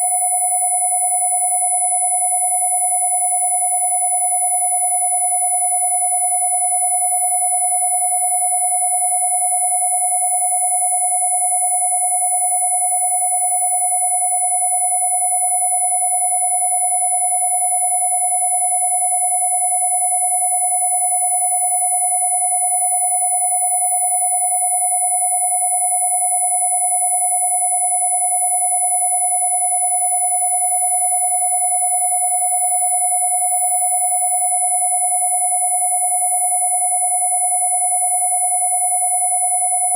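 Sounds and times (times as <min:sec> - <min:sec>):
mid-pitched sine tone: 0:00.0 - 0:39.9.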